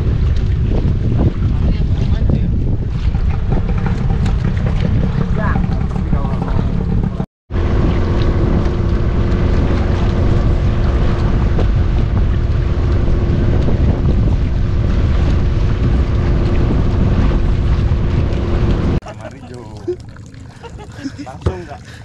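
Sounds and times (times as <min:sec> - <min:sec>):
boat engine drone: 0:00.0 - 0:22.0
wind buffeting on microphone: 0:00.0 - 0:22.0.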